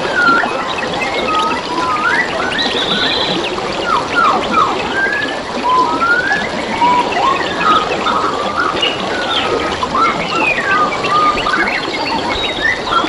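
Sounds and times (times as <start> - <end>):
birds calling: 0.0 - 13.0
stream water flowing: 0.0 - 13.0.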